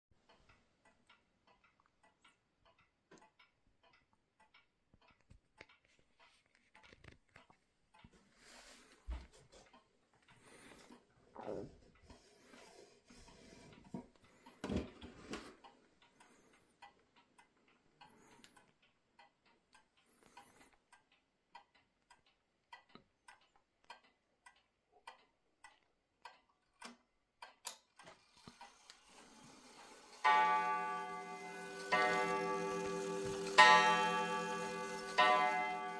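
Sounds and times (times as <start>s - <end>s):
pendulum clock ticking: 0.2s - 14.7s, 15.4s - 35.9s.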